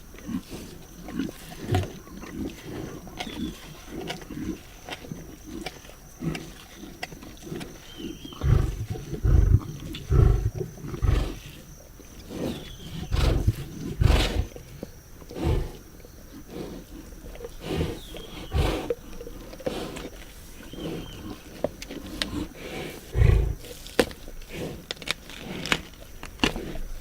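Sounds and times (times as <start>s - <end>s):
lions growling: 0.2s - 23.8s.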